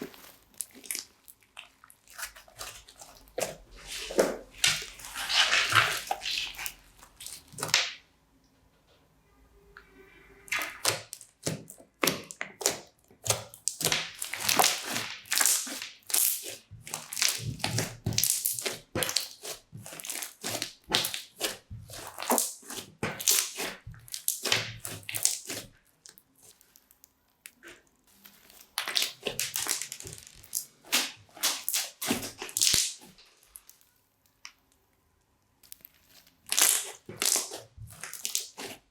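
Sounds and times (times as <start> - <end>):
crunchy slime crackling: 0.0 - 8.0, 10.5 - 34.4, 35.6 - 38.9.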